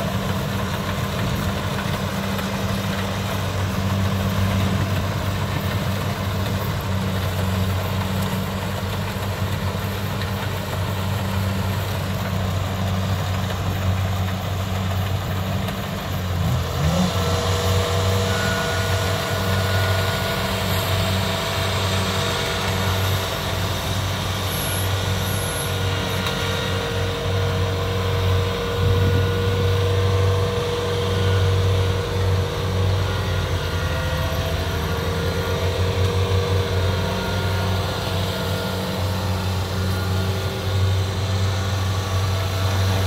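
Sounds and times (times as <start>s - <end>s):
combine harvester engine droning: 0.0s - 43.0s.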